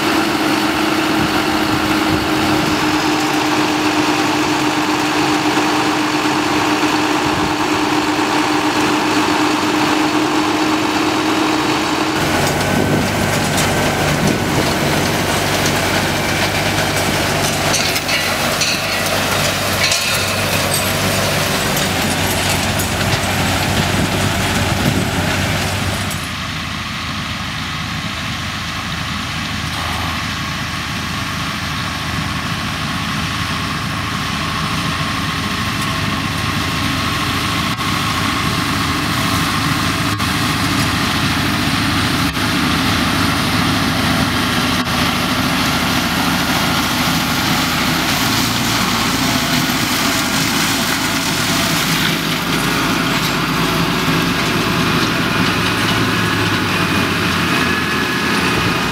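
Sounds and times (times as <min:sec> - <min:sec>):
harvester running: 0:00.0 - 0:58.9
tractor engine drone: 0:00.0 - 0:58.9.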